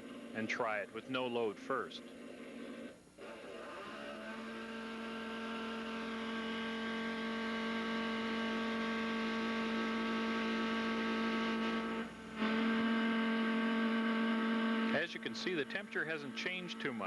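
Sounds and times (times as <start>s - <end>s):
chainsaw running at full throttle: 2.6s - 17.0s.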